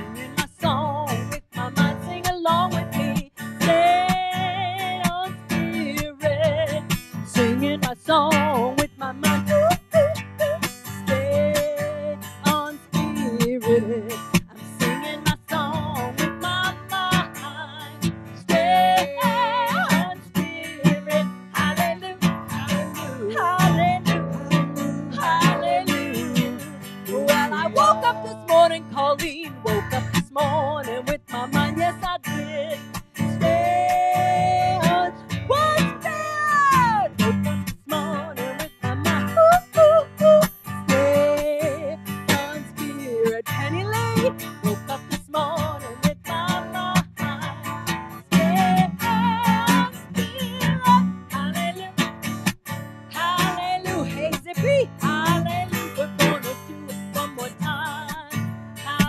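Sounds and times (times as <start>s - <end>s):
acoustic guitar strumming: 0.0s - 59.0s
woman singing: 0.0s - 59.0s.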